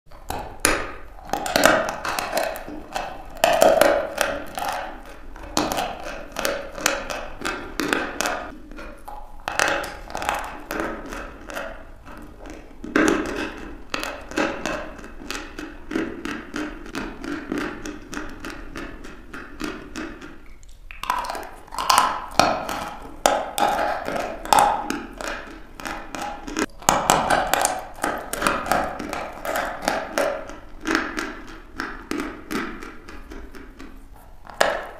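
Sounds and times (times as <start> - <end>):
soft chewing: 0.2 - 34.9.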